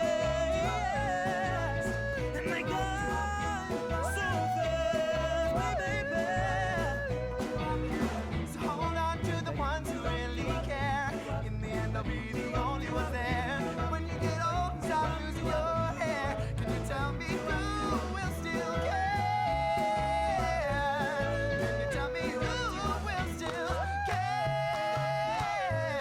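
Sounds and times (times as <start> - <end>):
pop-rock song with singer: 0.0 - 26.0.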